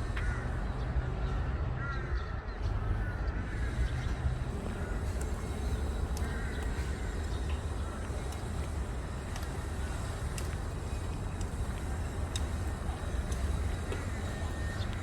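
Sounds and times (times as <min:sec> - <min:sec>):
birds calling: 0:00.0 - 0:15.0
steady low rumble: 0:00.0 - 0:15.0.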